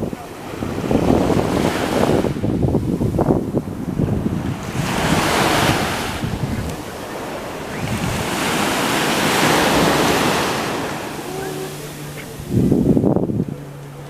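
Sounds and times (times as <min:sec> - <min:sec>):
sea waves washing in: 0:00.0 - 0:14.0
wind rumbling on microphone: 0:00.0 - 0:14.0.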